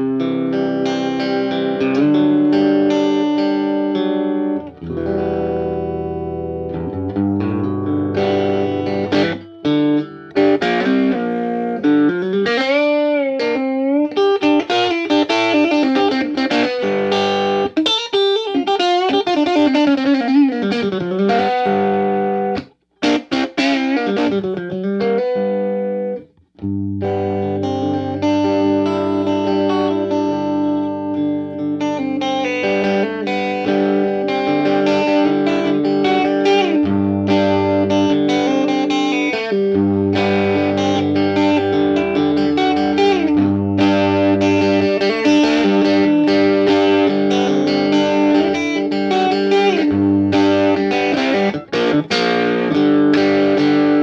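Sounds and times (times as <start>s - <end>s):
electric guitar through amp: 0.0s - 54.0s.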